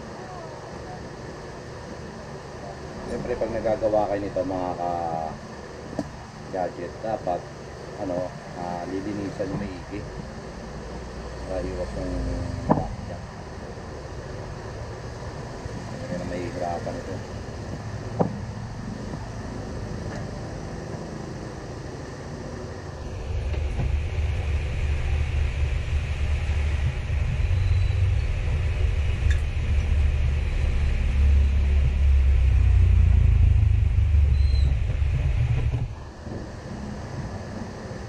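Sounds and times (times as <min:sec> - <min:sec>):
machine rumbling and hissing: 0:00.0 - 0:38.0.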